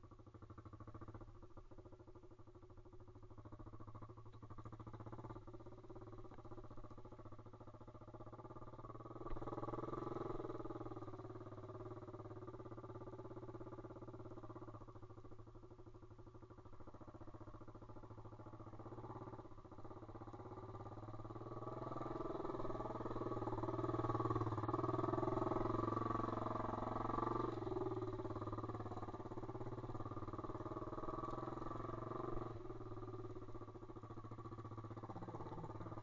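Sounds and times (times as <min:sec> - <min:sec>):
motorbike engine running: 0:00.0 - 0:36.0.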